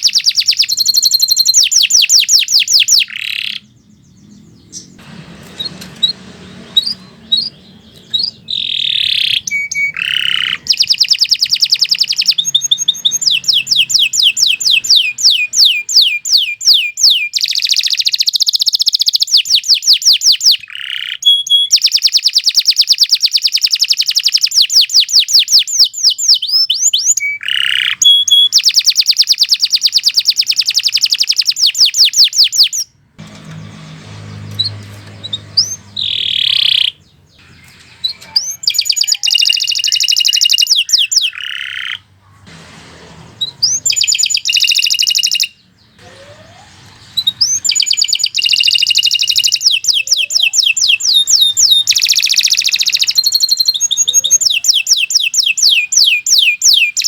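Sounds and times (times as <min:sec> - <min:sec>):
canary singing trills: 0:00.0 - 0:33.0, 0:33.6 - 0:42.4, 0:43.4 - 0:57.0.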